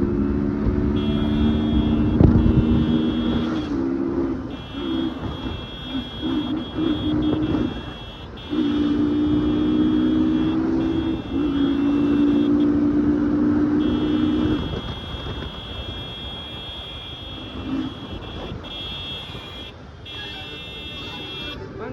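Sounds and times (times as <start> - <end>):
road and traffic noise: 0.0 - 21.9
two-tone motorcycle horn blasts: 0.2 - 21.6
high steady beeping tone: 0.9 - 3.8, 4.4 - 12.8, 13.7 - 21.6.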